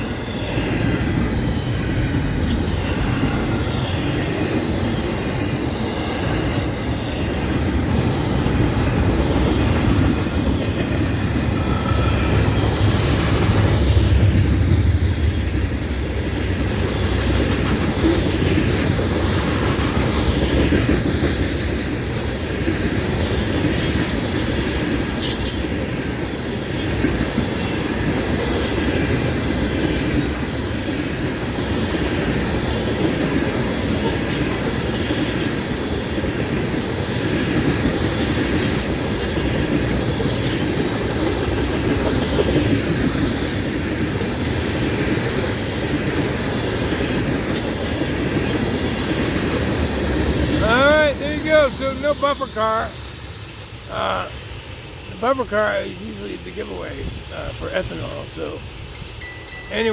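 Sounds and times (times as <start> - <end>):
train wheels clattering over rail joints: 0.0 - 59.2.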